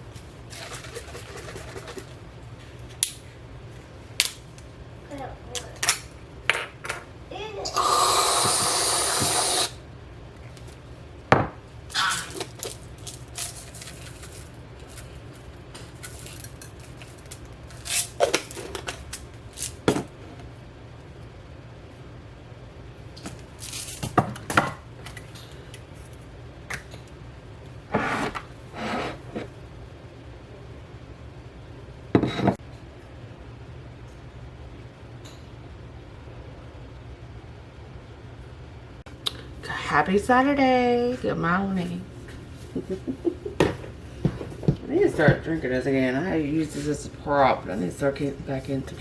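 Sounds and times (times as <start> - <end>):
low steady hum: 9.7 - 49.0.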